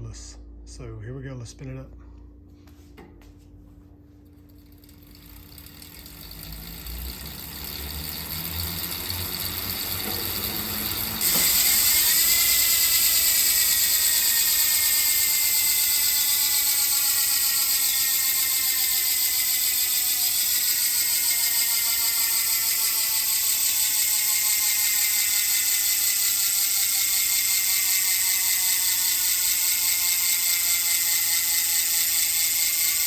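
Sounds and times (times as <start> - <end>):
freehub ratcheting buzz: 4.3 - 33.0.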